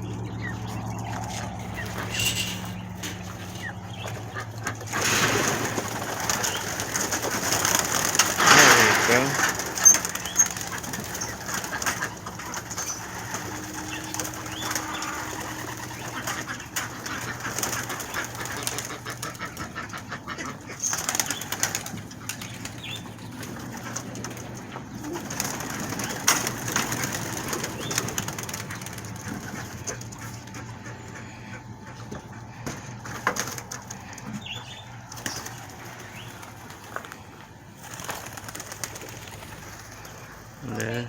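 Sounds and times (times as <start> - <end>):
pigeons cooing: 0.0 - 41.0
pigeon wings flapping: 1.1 - 30.6, 33.0 - 34.3, 35.0 - 40.6.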